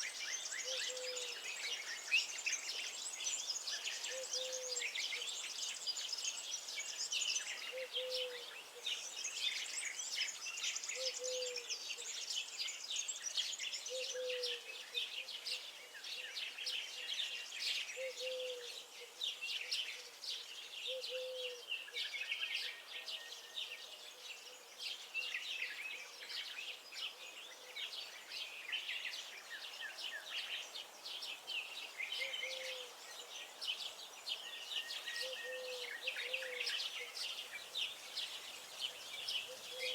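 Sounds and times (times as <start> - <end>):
small birds singing and chirping: 0.0 - 39.9.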